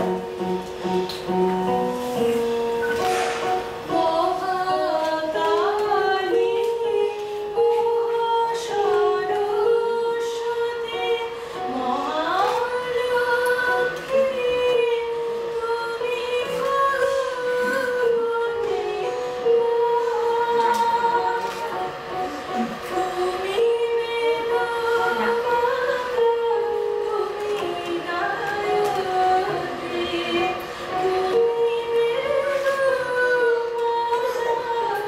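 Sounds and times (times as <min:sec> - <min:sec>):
electronic keyboard sustained notes: 0:00.0 - 0:35.0
woman singing: 0:03.9 - 0:35.0.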